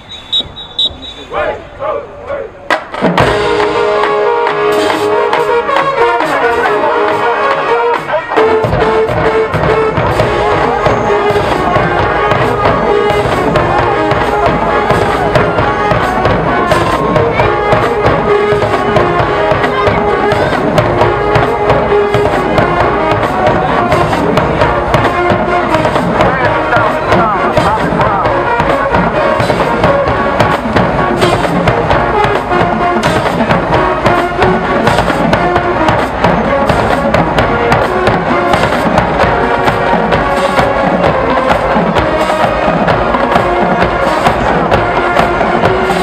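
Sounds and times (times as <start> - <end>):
drum line beat: 2.7 - 46.0
brass holding chords: 3.2 - 46.0.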